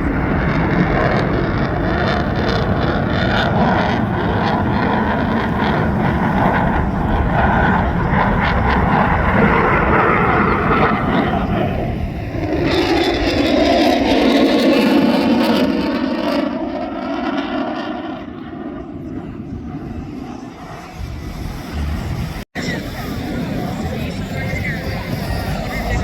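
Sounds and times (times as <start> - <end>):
high rushing jet sound: 0.0 - 26.0
jet engines roaring with crackle: 0.0 - 26.0.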